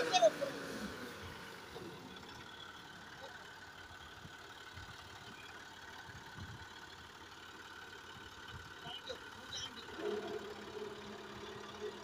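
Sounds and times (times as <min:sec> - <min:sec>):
faint diesel tractor engine running: 0:00.0 - 0:12.0.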